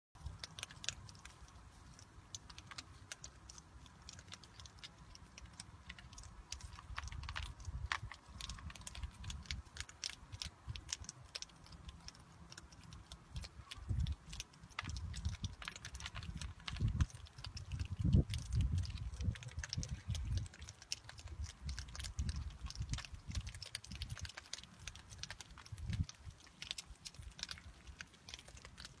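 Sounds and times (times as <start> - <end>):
animals crunching food pellets: 0.2 - 29.0.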